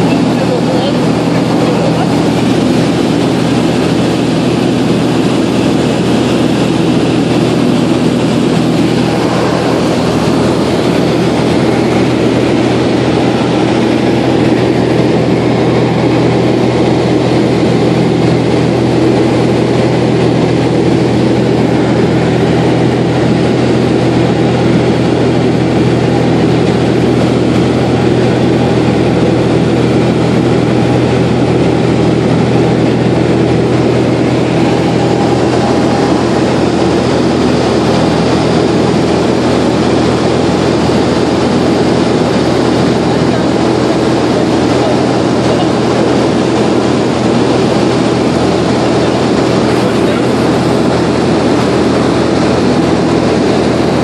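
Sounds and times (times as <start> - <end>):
aircraft engine and propeller droning: 0.0 - 54.0
rush of airflow: 0.0 - 54.0.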